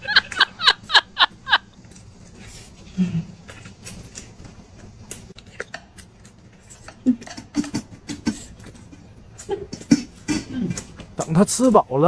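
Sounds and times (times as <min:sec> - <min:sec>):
person chewing food: 0:01.3 - 0:11.2.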